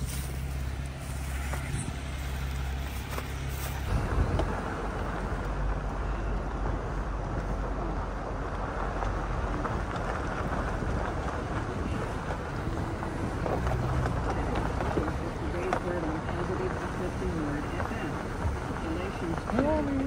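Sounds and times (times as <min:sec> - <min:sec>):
engine low drone: 0:00.0 - 0:20.0
tyres on gravel: 0:00.0 - 0:20.0
wind noise: 0:00.0 - 0:20.0.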